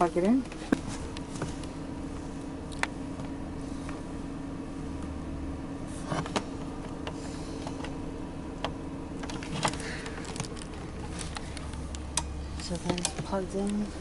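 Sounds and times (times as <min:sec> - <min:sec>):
van engine idling: 0:00.0 - 0:14.0.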